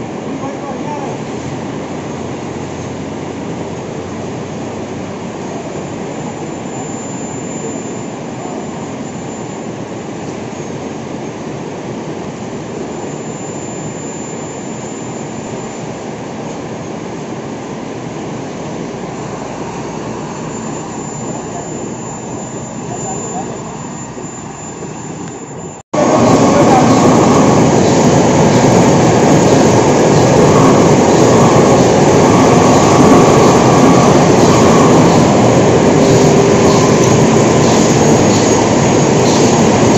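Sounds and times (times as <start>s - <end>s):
faint high whine: 0.0s - 39.9s
heavy machinery running: 0.0s - 39.9s.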